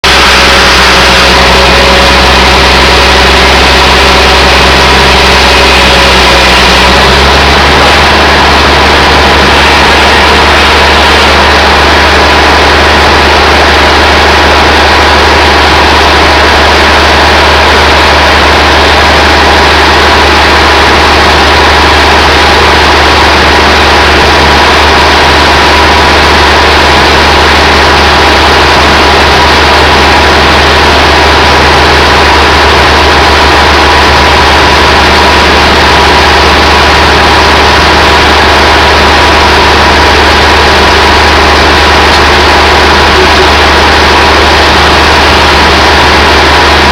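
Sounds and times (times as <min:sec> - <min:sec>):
sawmill machinery drone: 0:00.0 - 0:46.9.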